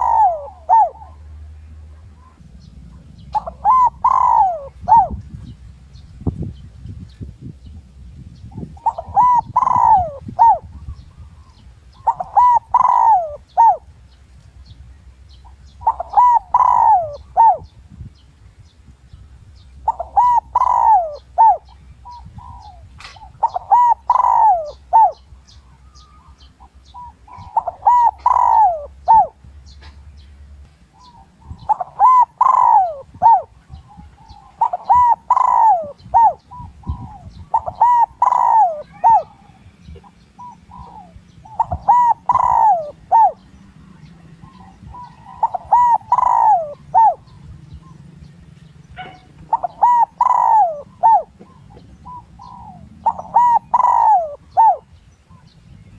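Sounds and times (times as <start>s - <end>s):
dove cooing: 0.0s - 5.5s, 8.4s - 14.0s, 15.2s - 17.8s, 19.8s - 29.9s, 30.9s - 55.5s.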